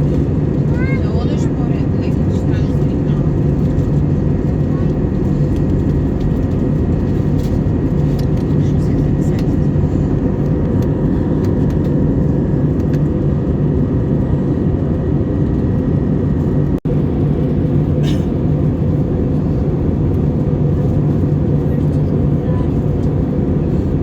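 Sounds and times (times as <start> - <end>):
airliner cabin droning rumble: 0.0 - 24.0.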